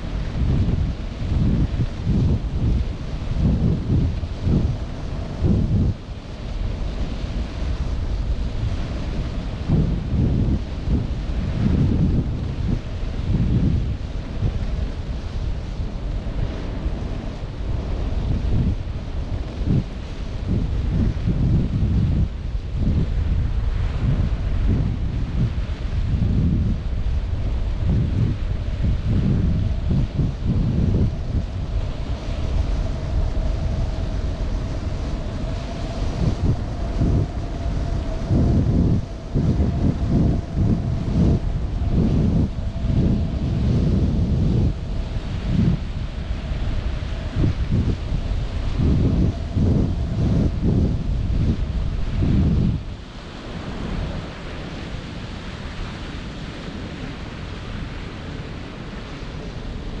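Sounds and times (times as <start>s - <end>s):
thin steady hum: 0.0s - 60.0s
wind buffeting microphone: 0.0s - 60.0s.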